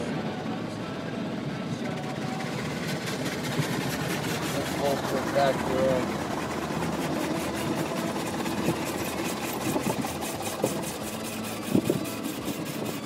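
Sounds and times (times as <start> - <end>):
steady machinery hum: 0.0 - 13.0
rotating car wash brushes: 1.2 - 13.0
water spraying on windshield: 2.0 - 13.0.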